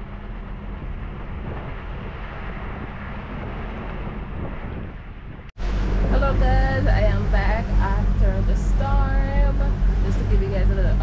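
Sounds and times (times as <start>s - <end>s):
low rumble: 0.0s - 11.0s
wind rushing over microphone: 0.0s - 11.0s.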